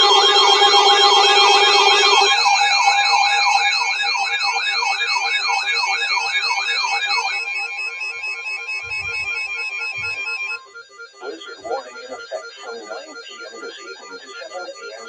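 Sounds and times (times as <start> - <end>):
electronic siren yelping: 0.0 - 15.0.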